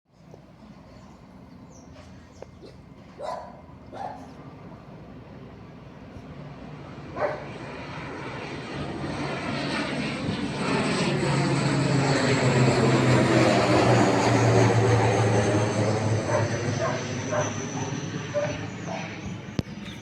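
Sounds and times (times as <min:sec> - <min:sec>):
turboprop engines humming: 0:00.1 - 0:20.0.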